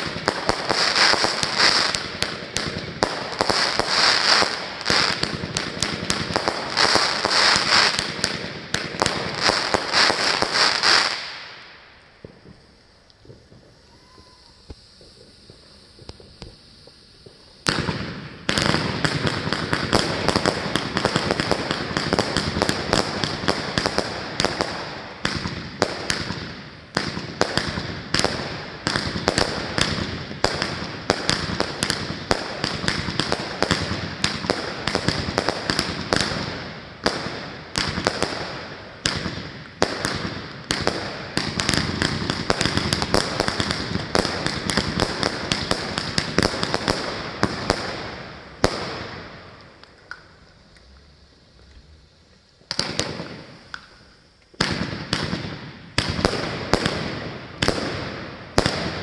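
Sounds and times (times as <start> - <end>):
firework cake shots and bursts: 0.0 - 51.0.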